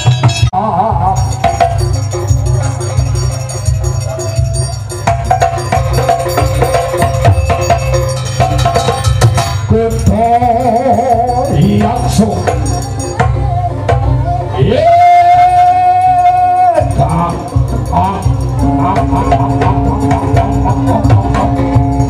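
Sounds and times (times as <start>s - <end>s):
drums beating fast rhythm: 0.0s - 22.0s
wavering melody: 0.0s - 22.0s.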